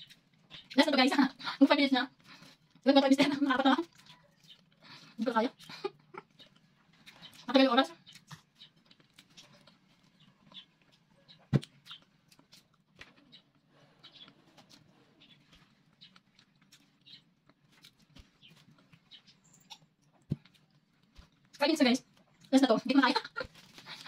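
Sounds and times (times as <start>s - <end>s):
person chewing food: 0.0s - 0.8s, 2.1s - 2.9s, 3.8s - 22.5s.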